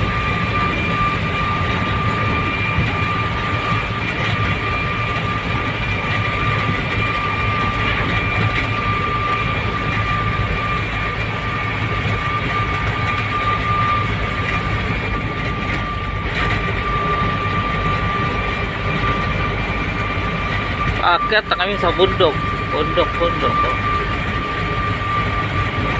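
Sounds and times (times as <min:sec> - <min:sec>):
high whine: 0:00.0 - 0:25.9
road noise: 0:00.0 - 0:25.9
truck engine rumble: 0:00.0 - 0:25.9.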